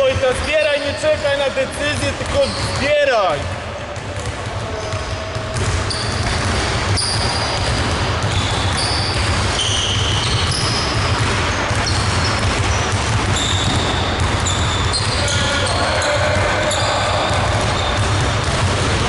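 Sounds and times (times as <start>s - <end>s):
sneaker squeaks: 0.0s - 18.6s
basketballs bouncing on hardwood: 0.0s - 19.0s.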